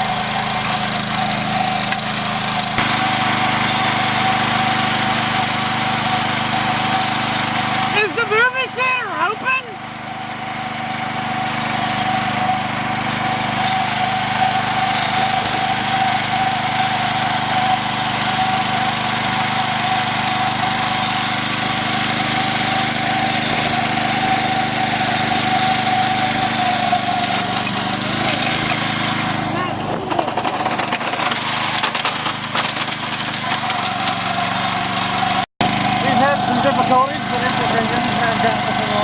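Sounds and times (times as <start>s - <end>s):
garden tractor engine running: 0.0s - 39.0s.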